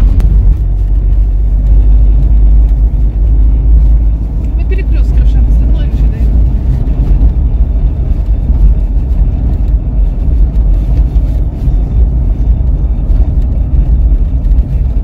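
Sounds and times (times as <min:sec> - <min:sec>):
car engine rumble: 0:00.0 - 0:15.0
tyre noise on rough road: 0:00.0 - 0:15.0.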